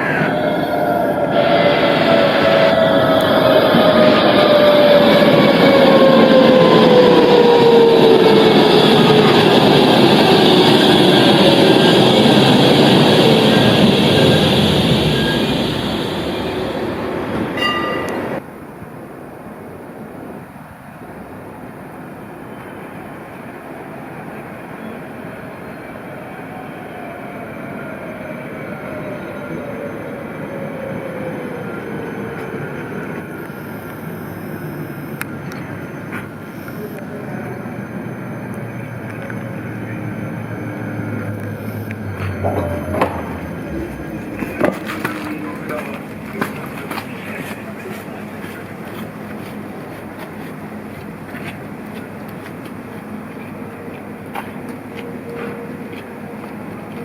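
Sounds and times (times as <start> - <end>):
tram motor whine: 0.0 - 18.7, 22.3 - 57.0
tram wheels rolling on rails: 0.0 - 57.0.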